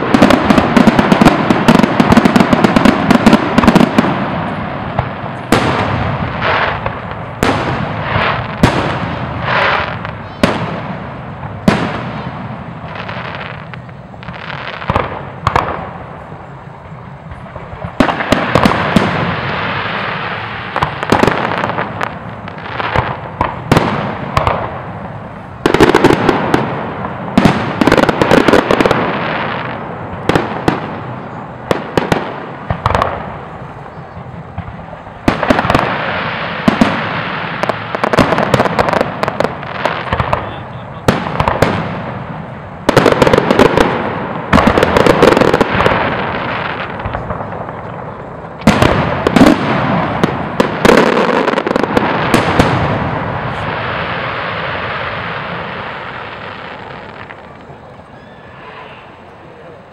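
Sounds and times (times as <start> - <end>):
firework bangs: 0.0 - 59.9
firework crackle: 0.0 - 59.9.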